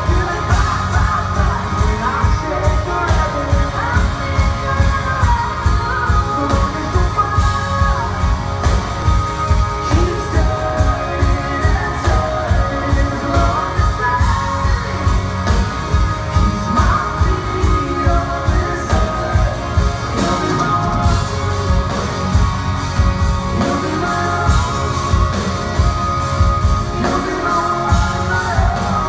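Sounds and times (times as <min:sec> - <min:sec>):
drums with steady beat: 0:00.0 - 0:29.0
electric guitar: 0:00.0 - 0:29.0
person singing: 0:00.0 - 0:29.0.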